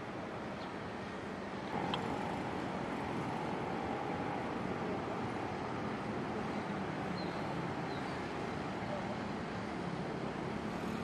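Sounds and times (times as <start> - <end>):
cars and motorbikes passing: 1.7 - 11.0.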